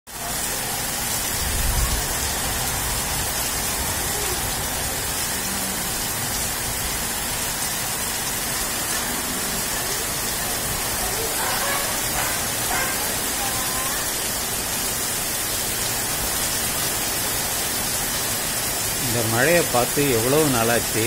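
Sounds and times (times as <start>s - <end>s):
heavy rain on ground: 0.1s - 21.0s.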